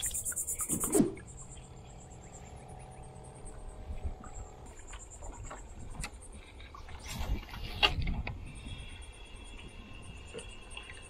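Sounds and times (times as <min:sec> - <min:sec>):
insects chirping: 0:00.0 - 0:07.4, 0:08.4 - 0:11.0
faint steady hum: 0:00.0 - 0:11.0.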